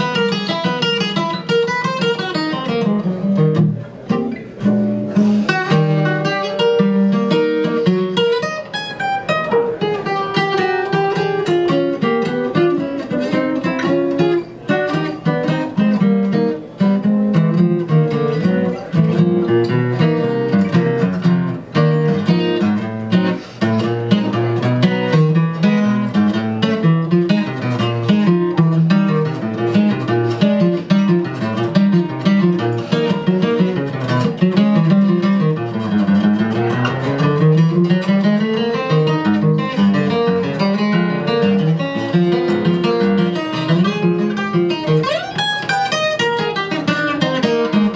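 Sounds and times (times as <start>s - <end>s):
acoustic guitar playing: 0.0s - 47.9s.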